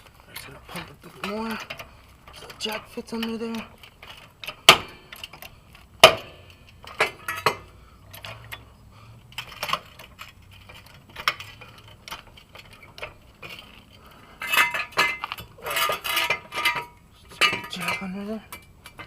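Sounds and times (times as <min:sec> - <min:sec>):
floor jack clicking and clinking: 0:00.0 - 0:08.6, 0:09.3 - 0:19.0.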